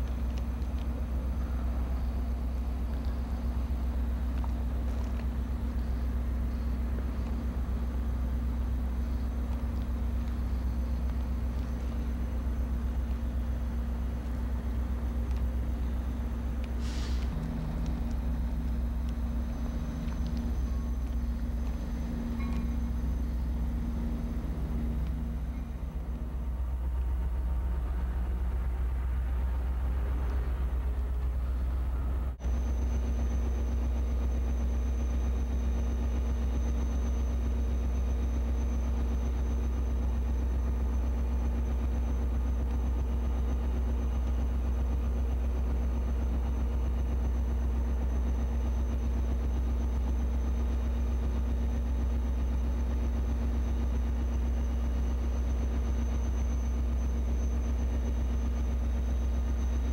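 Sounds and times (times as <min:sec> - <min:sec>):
diesel locomotive idling: 0:00.0 - 0:59.9.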